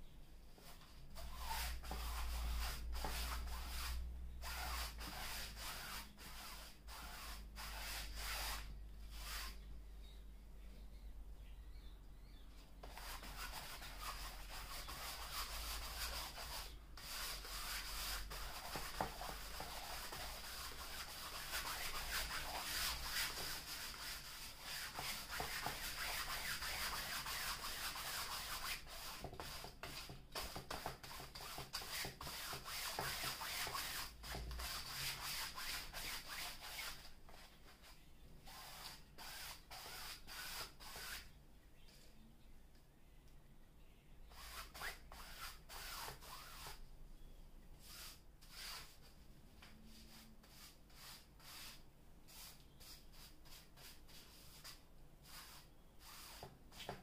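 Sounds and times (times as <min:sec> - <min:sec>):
brush stroking canvas: 0:00.6 - 0:09.7, 0:12.8 - 0:41.3, 0:47.8 - 0:57.0.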